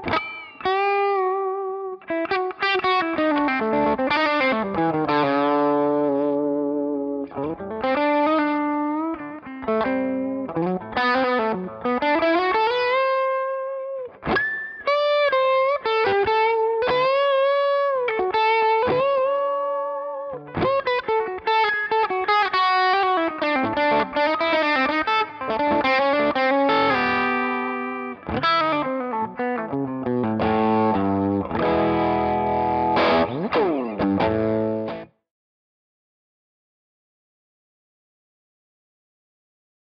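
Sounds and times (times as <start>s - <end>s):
overdriven electric guitar: 0.0s - 35.2s.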